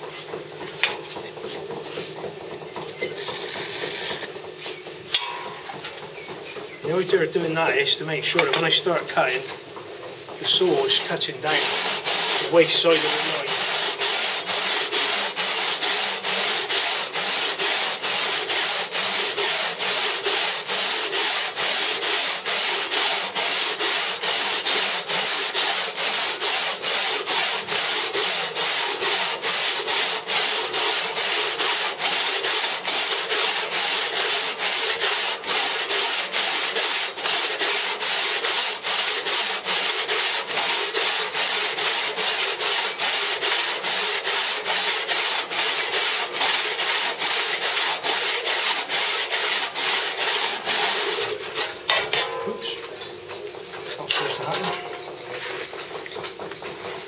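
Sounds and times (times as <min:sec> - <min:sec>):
hand saw cutting stone: 0:03.0 - 0:04.4, 0:10.4 - 0:52.7, 0:53.4 - 0:56.6.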